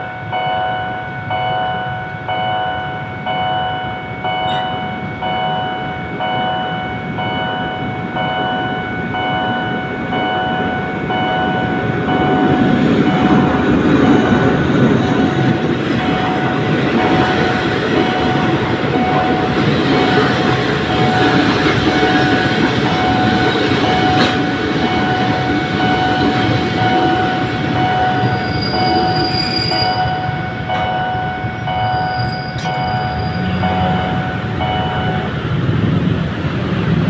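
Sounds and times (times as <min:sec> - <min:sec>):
pulsing crossing tone: 0:00.0 - 0:35.7
sustained tone: 0:00.0 - 0:35.9
train wheels on rails: 0:00.0 - 0:37.0.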